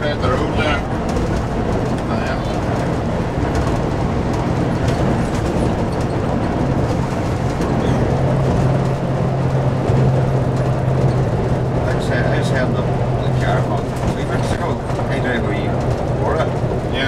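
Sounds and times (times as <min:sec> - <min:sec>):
diesel engine running: 0:00.0 - 0:17.0
road noise: 0:00.0 - 0:17.0.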